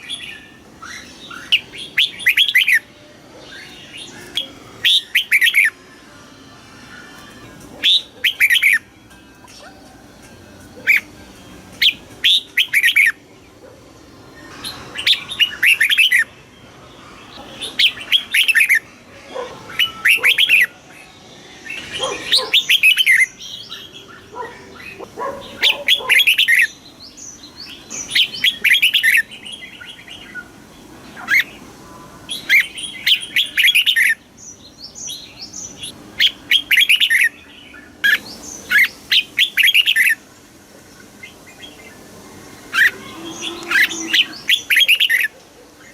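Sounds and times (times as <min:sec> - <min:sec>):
bird singing warbled phrases: 0:00.0 - 0:09.9, 0:10.7 - 0:45.9.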